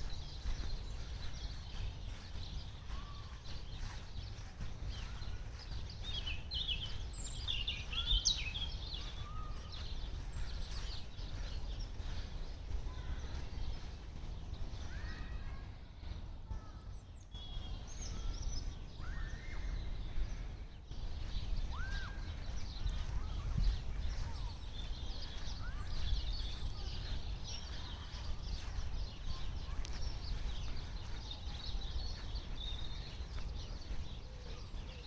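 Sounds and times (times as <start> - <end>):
small birds chirping and singing: 0.0 - 35.0.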